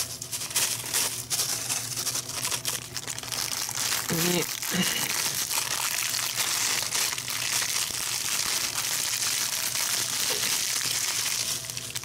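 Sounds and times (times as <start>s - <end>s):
crackers pouring out: 0.0s - 12.0s
plastic sleeve crinkling: 0.0s - 12.0s.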